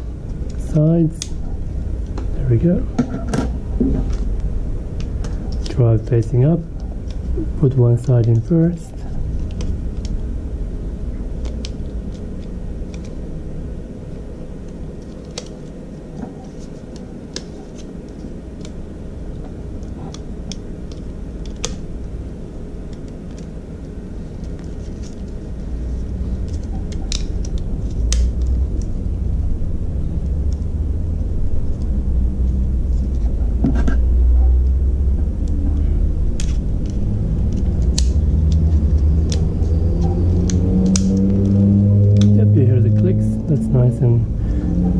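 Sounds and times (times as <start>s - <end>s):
low steady rumble: 0.0s - 44.9s.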